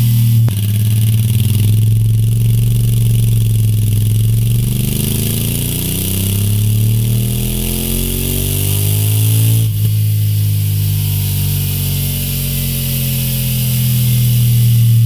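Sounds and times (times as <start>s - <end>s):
motorcycle engine revving loud: 0.0s - 15.0s.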